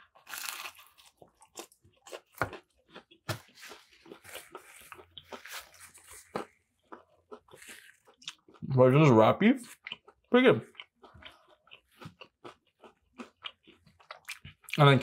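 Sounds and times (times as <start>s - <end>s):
chewing with crunches: 0.0s - 9.0s, 9.6s - 14.9s.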